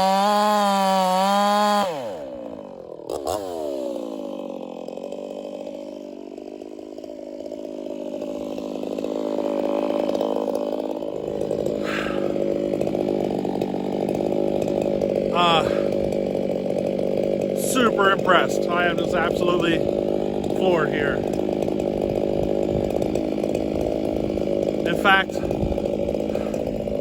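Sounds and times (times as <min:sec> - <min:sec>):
chainsaw revving then idling: 0:00.0 - 0:27.0.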